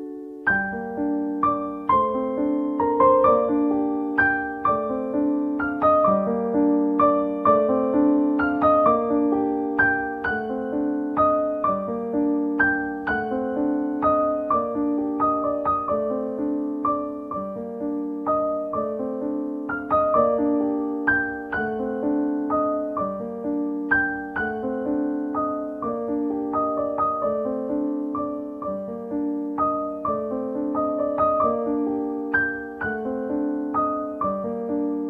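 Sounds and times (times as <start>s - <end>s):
gentle piano melody: 0.0s - 35.0s.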